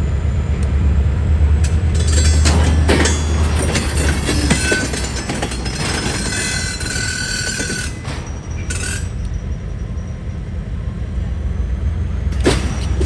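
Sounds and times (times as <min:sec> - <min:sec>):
steel wheels rolling on rail: 0:00.0 - 0:13.0.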